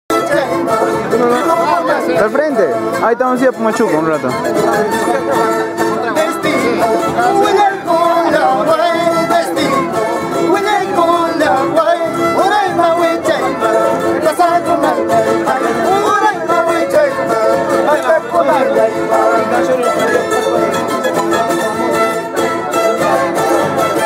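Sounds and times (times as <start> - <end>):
strummed acoustic guitars: 0.1 - 24.0
violins playing melody: 0.1 - 24.0.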